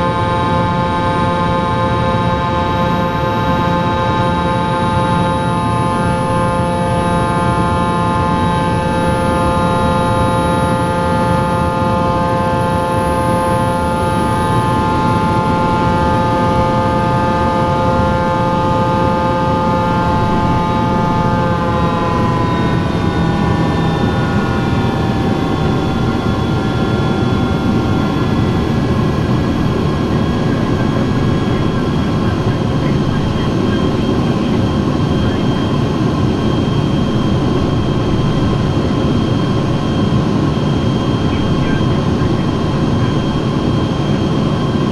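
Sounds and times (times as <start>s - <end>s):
jet engines roaring with high whine: 0.0s - 44.9s.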